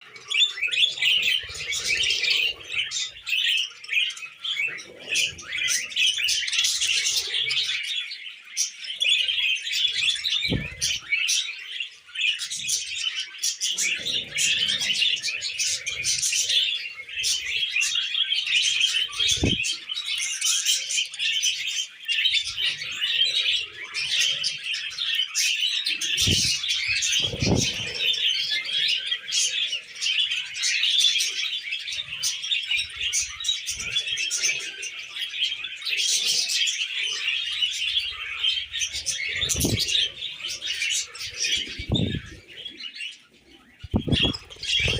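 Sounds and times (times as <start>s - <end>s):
budgies chattering and chirping: 0.0s - 44.9s.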